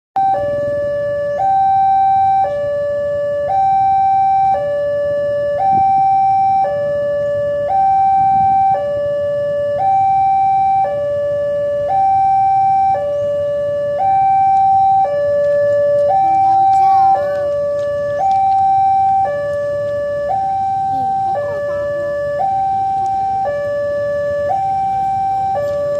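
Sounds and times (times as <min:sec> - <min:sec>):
two-tone siren: 0:00.2 - 0:25.9.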